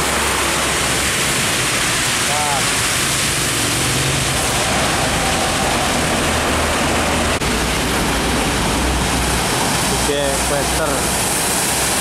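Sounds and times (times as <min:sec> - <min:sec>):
heavy rain and tyre spray: 0:00.0 - 0:12.0
truck engines rumbling: 0:00.0 - 0:12.0.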